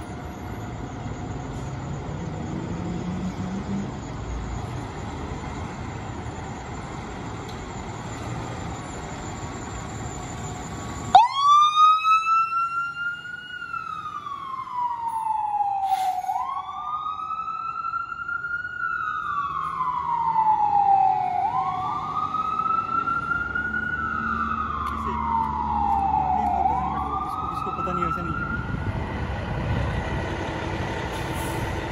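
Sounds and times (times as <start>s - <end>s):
fire engine rumbling: 0.0s - 31.9s
siren wailing: 0.6s - 29.6s.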